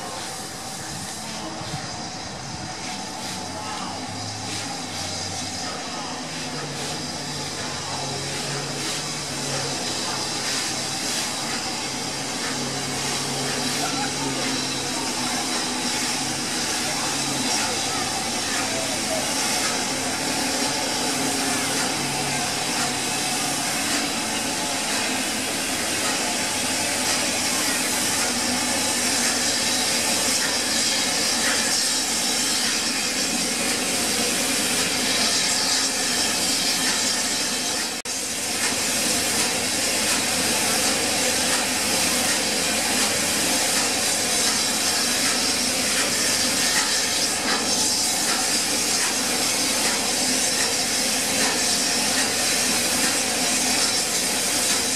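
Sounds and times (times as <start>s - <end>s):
steam locomotive hissing steam: 0.0s - 54.9s.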